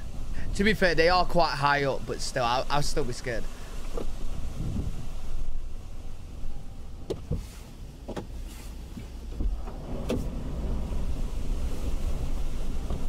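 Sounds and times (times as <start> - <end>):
hurricane wind rumble: 0.0 - 7.4, 9.1 - 13.0
water over flooded street: 0.0 - 13.0.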